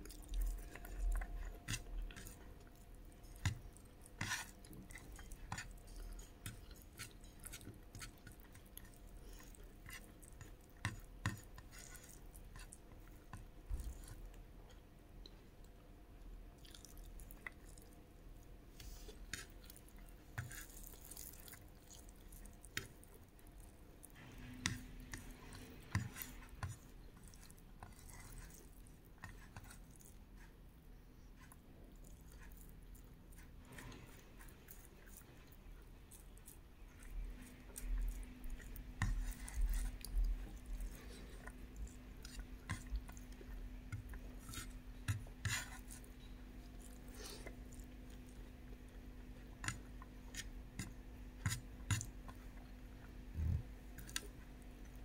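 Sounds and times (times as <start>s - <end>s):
chewing food: 0.0s - 55.0s
faint steady hum: 0.0s - 55.0s.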